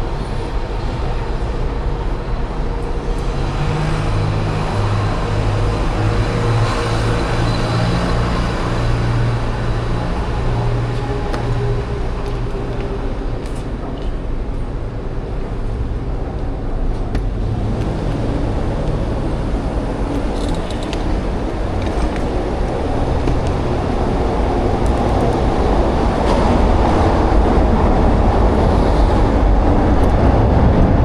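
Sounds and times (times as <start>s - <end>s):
low vehicle engine hum: 0.0s - 31.0s
street traffic noise: 0.0s - 31.0s.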